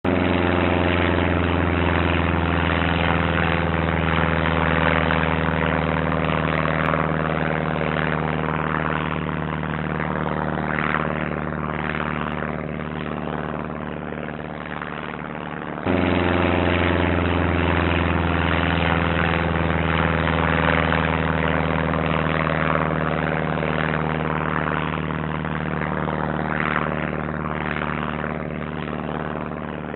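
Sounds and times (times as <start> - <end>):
propeller plane engine droning: 0.0 - 29.9.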